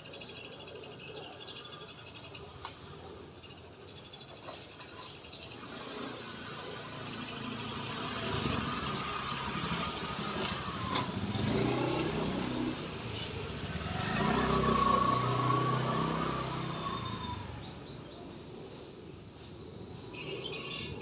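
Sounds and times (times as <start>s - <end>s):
vehicles passing on road: 0.0s - 21.0s.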